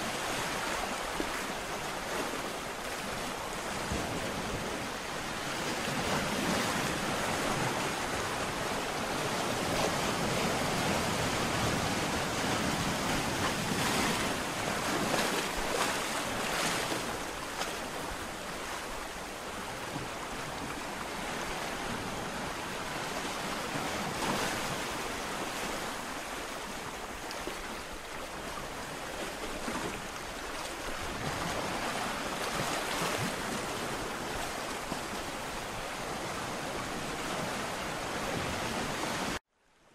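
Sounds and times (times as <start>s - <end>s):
ocean waves breaking: 0.0s - 39.4s.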